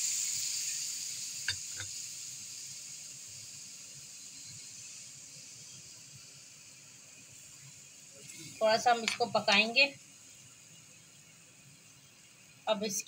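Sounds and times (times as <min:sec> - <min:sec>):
frying pan hissing: 0:00.0 - 0:13.0.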